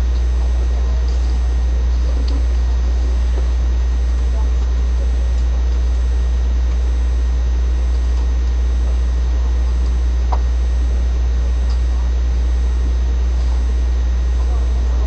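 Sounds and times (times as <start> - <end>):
low-pitched hum: 0.0 - 15.0.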